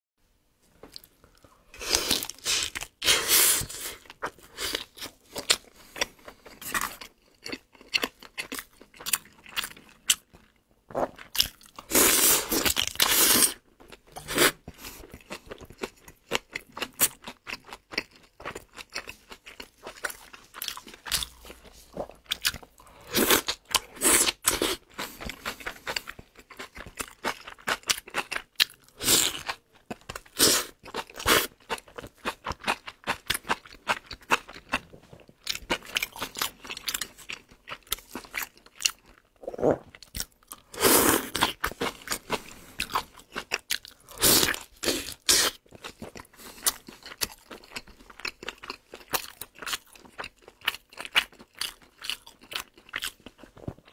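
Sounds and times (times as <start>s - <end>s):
chewing and biting sausage: 4.0s - 10.5s, 11.1s - 53.9s.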